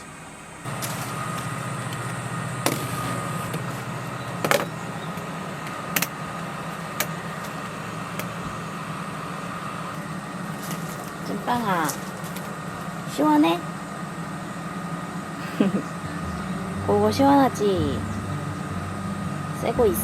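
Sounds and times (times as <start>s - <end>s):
air conditioner humming: 0.0s - 20.0s
thin whine: 0.0s - 20.0s.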